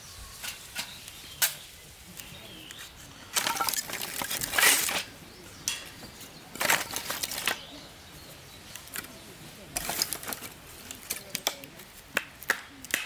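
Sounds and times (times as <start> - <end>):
objects crackling and rustling: 0.0 - 13.0.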